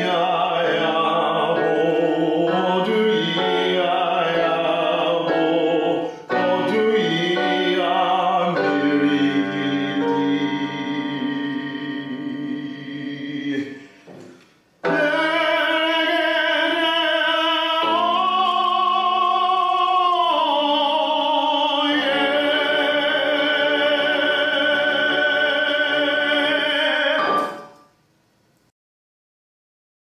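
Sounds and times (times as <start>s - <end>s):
man singing operatically: 0.0s - 13.9s, 14.8s - 27.7s.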